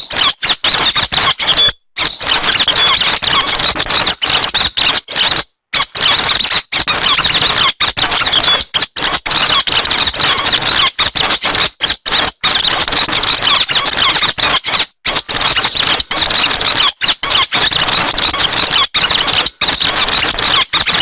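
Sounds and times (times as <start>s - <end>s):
high squeaky bird chattering: 0.0s - 21.0s.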